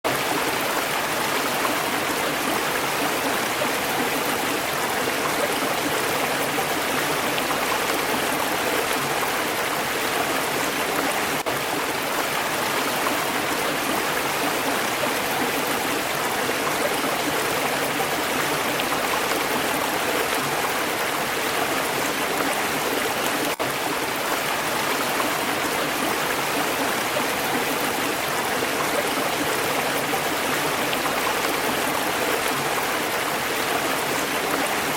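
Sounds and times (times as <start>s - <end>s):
stream flowing over rocks: 0.1s - 34.9s.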